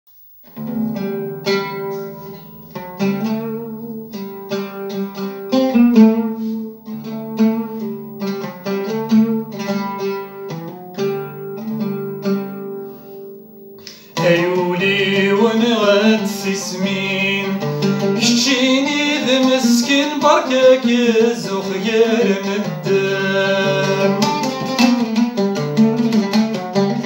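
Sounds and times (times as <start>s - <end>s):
oud playing solo: 0.4s - 27.0s.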